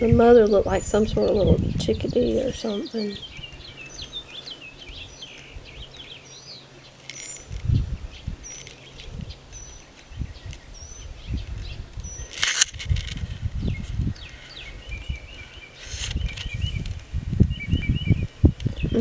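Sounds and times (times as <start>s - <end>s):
small birds chirping: 0.0s - 19.0s
thin high bird tweet: 0.0s - 19.0s
loud rustle: 0.9s - 17.5s.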